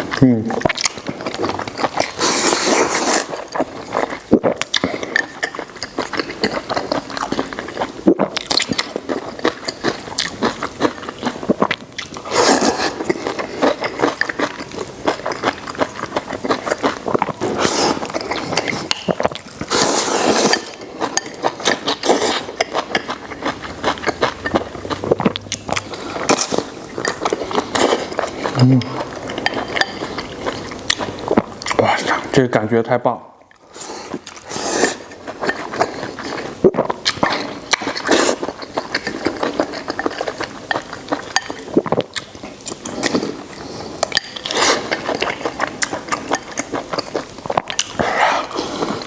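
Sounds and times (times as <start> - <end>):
close chewing with wet clicks: 0.0 - 19.9, 20.5 - 32.3, 33.4 - 49.0.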